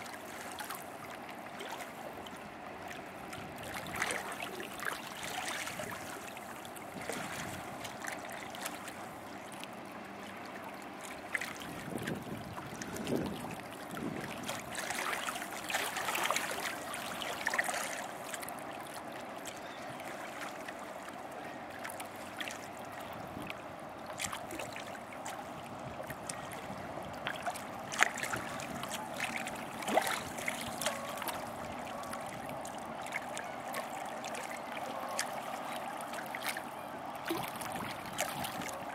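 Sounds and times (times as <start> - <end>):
ship engine hum: 0.0 - 38.9
small waves lapping at shore: 0.0 - 38.9.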